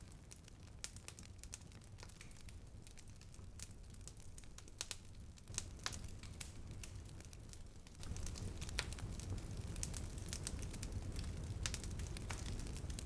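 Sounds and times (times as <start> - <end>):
wood fire crackling in a stove: 0.0 - 13.0.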